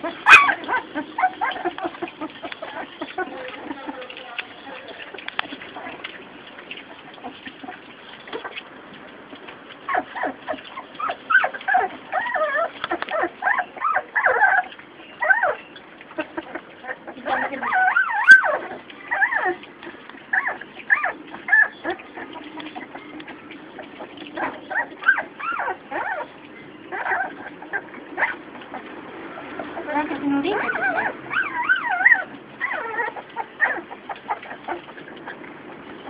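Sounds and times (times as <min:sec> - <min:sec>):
puppies whining and squealing: 0:00.0 - 0:36.0.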